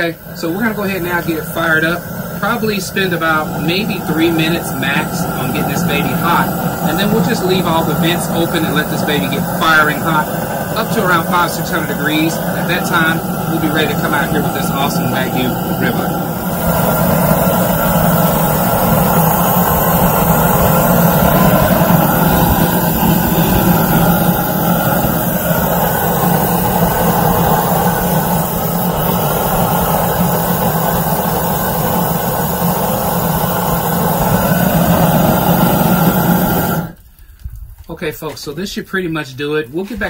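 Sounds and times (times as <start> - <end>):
propane torch flame rushing: 0.0 - 37.1.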